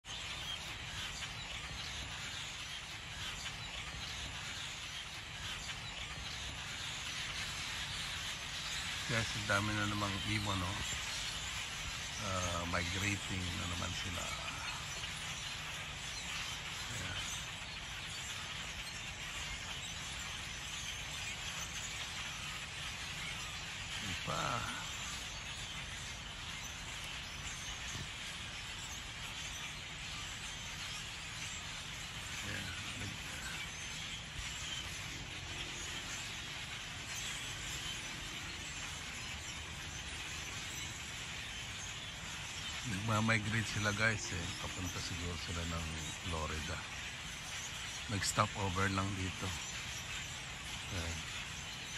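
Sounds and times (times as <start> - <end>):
flock of birds chattering: 0.0 - 51.9.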